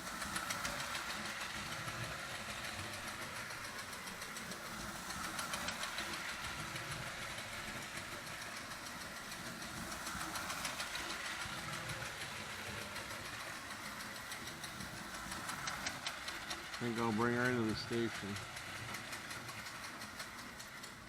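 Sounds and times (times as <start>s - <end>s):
fast even ticking chug: 0.0s - 21.0s
toy train motor and wheels: 0.0s - 21.0s.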